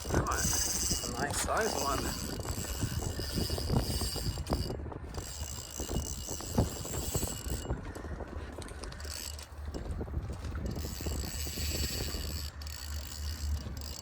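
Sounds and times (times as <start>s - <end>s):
fishing reel clicking: 0.0s - 7.8s, 8.6s - 14.0s
wind rumble on microphone: 0.0s - 14.0s.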